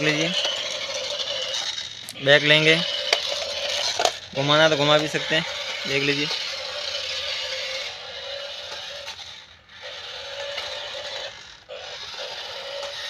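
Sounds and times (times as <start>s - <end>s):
toy car motor whining: 0.0s - 13.0s
wheels scraping on tile: 0.0s - 13.0s.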